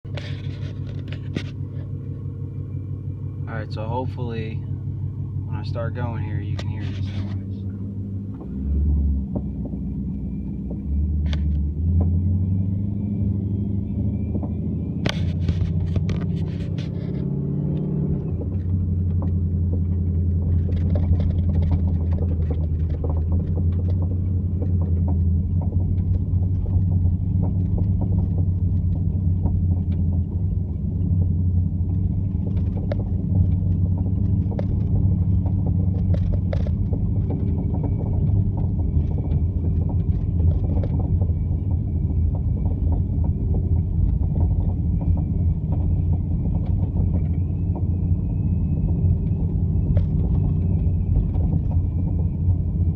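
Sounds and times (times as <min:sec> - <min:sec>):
boat engine drone: 0:00.0 - 0:52.9
clunks and knocks: 0:05.6 - 0:12.3, 0:14.2 - 0:52.9.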